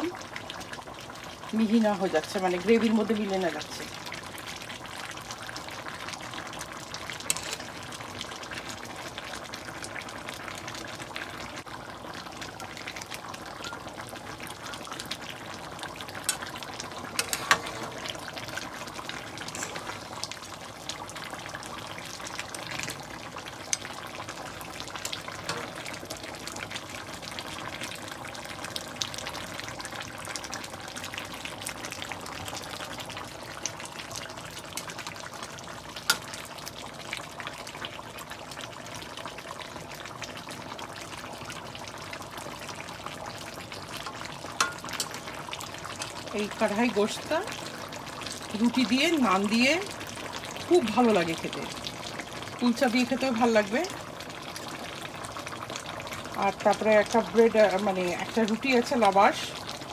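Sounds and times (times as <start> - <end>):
food sizzling and bubbling: 0.0 - 59.9.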